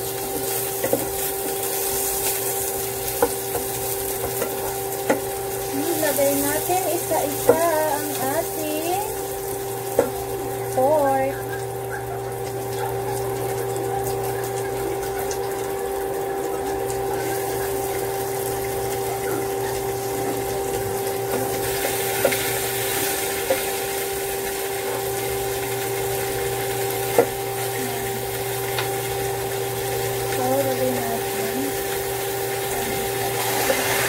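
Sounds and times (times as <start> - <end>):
meat sizzling in a pan: 0.0 - 34.0
steady hum: 0.0 - 34.0
utensils clicking against a pan: 0.2 - 10.8, 16.4 - 27.8, 28.4 - 34.0.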